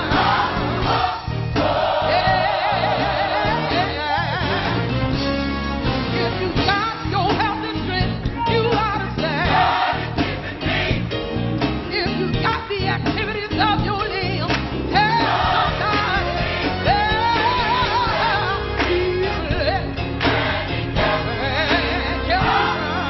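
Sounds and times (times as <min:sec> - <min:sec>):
voices singing gospel: 0:00.0 - 0:05.2, 0:07.0 - 0:23.0
instrumental backing: 0:00.0 - 0:23.0
steady bass line: 0:00.0 - 0:23.0.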